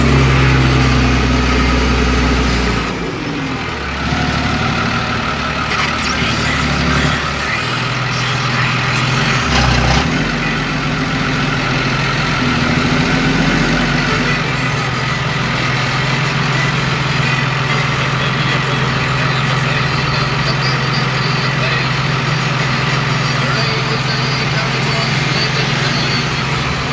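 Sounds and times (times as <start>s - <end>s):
engine running: 0.0s - 26.9s.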